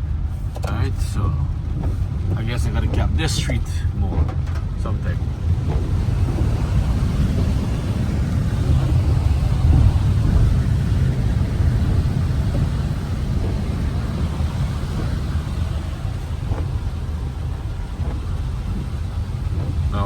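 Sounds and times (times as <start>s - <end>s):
road and engine rumble: 0.0s - 20.0s
tyres hissing on wet road: 0.1s - 20.0s.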